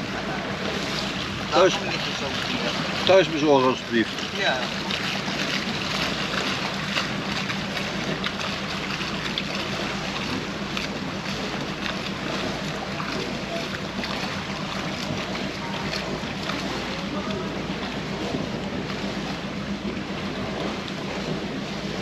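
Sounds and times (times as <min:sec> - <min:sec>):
engine hum: 0:00.0 - 0:22.0
rushing water: 0:00.0 - 0:22.0
wind: 0:00.0 - 0:22.0.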